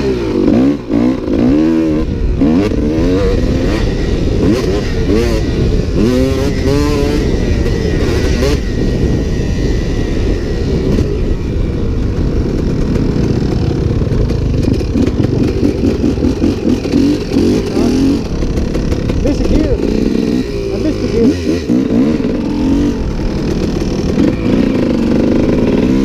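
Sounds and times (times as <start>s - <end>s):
motocross bike engine: 0.0s - 26.0s
wind rush: 1.2s - 26.0s.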